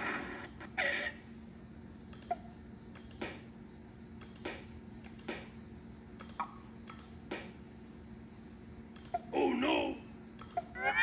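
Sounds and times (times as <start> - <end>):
computer hum: 0.0 - 11.0.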